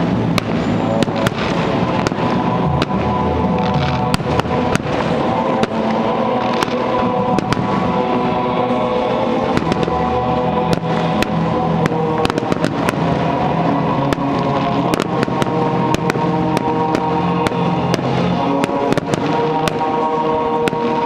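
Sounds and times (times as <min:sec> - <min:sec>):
fireworks bangs and crackles: 0:00.0 - 0:21.0
music: 0:00.0 - 0:21.0.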